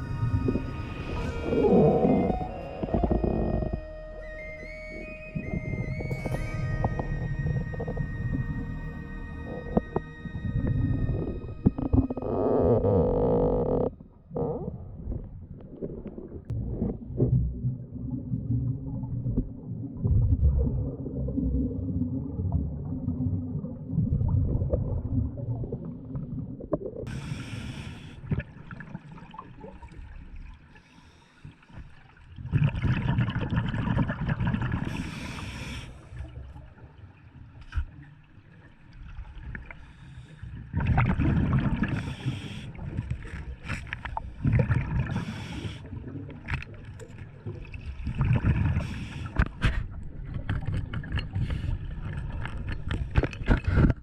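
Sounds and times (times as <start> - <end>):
low underwater rumble: 0.0 - 30.7, 31.8 - 54.0
exhaled bubbles gurgling: 0.0 - 30.8, 31.8 - 54.0.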